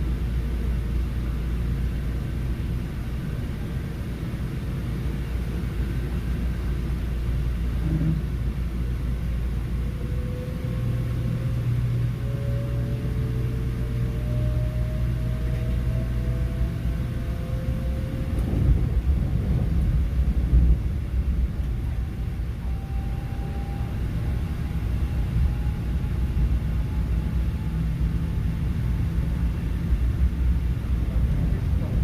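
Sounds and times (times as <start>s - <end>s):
faint train whine: 0.0s - 32.0s
train rumbling inside carriage: 0.0s - 32.0s.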